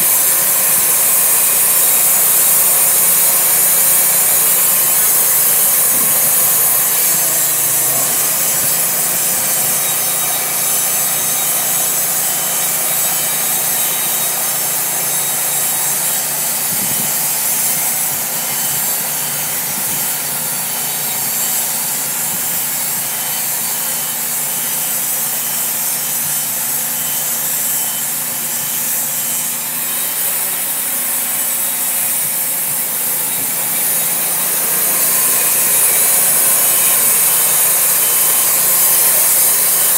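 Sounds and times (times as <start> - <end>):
band saw blade rasping through wood: 0.0 - 39.9
sawmill engine running: 0.0 - 39.9.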